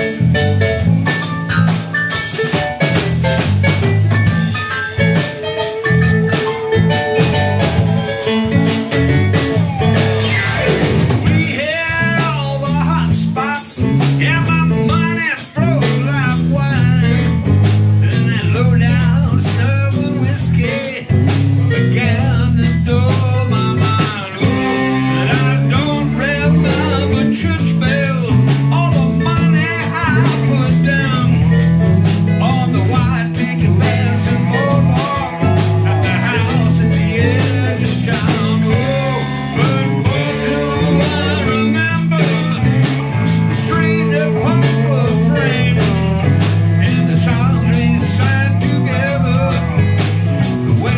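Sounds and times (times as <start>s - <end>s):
band playing blues-rock: 0.0s - 50.9s.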